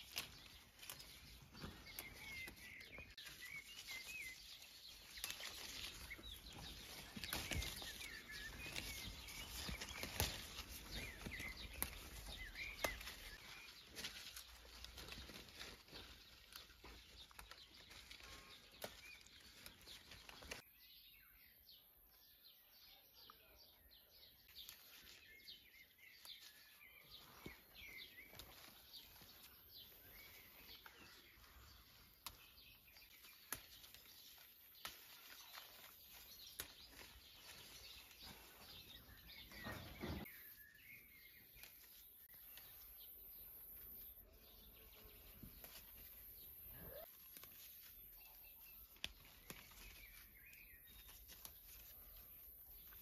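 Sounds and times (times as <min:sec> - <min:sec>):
leaves rustling: 0:00.0 - 0:20.6, 0:24.5 - 0:53.0.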